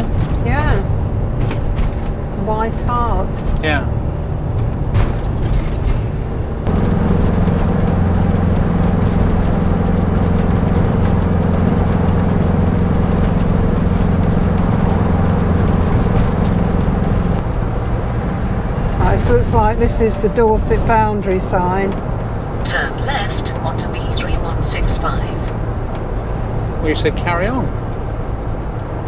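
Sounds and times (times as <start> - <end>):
vehicle engine drone: 0.0 - 29.0.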